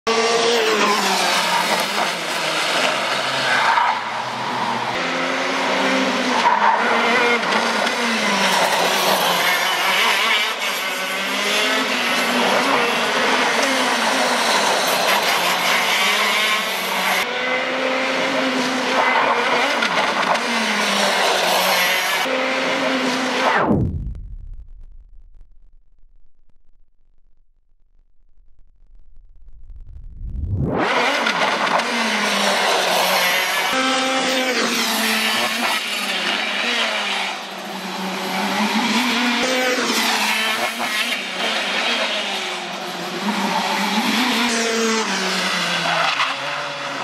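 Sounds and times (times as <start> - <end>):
kart engines revving: 0.1 - 23.7, 30.5 - 47.0.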